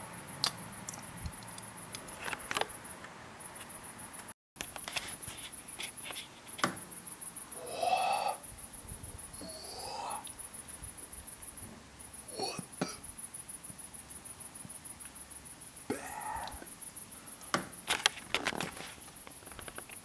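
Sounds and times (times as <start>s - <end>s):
insects pulsing: 0.0s - 20.0s.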